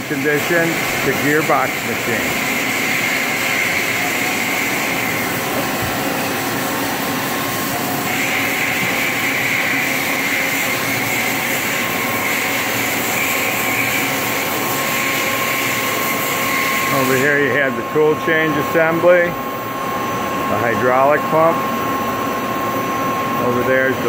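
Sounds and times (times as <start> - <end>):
high machine whine: 0.0 - 24.0
machine mechanical hum: 0.0 - 24.0.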